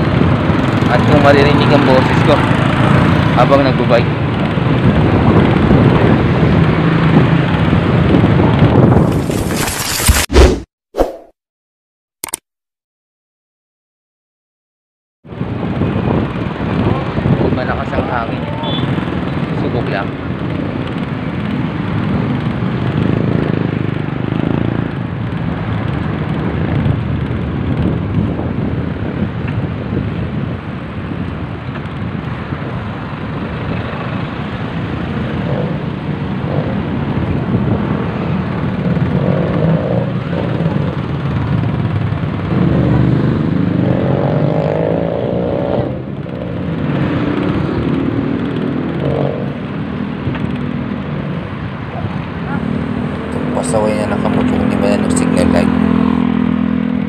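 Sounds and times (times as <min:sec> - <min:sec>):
motorcycle and car engines: 0:00.0 - 0:09.6, 0:15.2 - 0:57.0.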